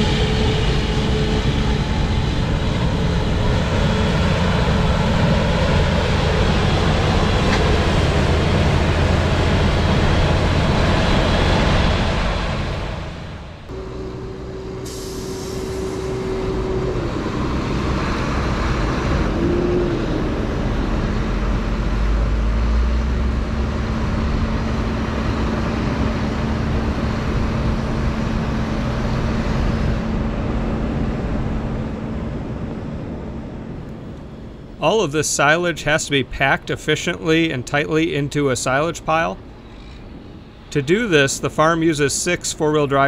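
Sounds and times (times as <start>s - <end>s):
diesel machinery running: 0.0s - 43.0s
machinery whine: 0.0s - 43.0s.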